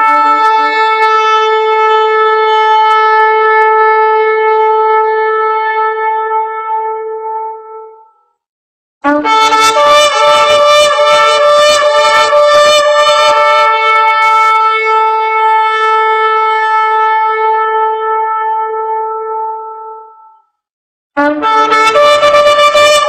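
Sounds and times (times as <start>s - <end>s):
horn long blast: 0.0s - 8.2s, 9.0s - 20.4s, 21.2s - 23.0s.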